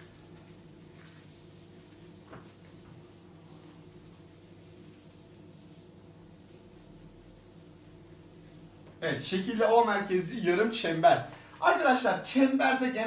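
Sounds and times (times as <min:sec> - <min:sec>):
cloth rubbing whiteboard: 0:00.0 - 0:11.0.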